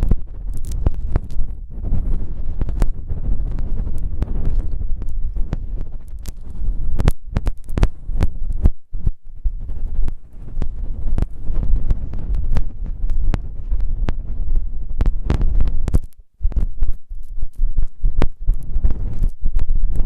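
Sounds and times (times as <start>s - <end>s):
rubbing on a microphone: 0.0s - 20.0s.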